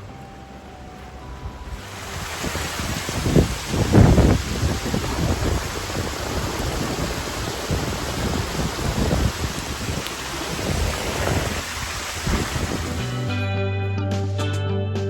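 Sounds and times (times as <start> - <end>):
rain hiss: 0.0 - 13.3
wind gusts buffeting microphone: 0.0 - 13.3.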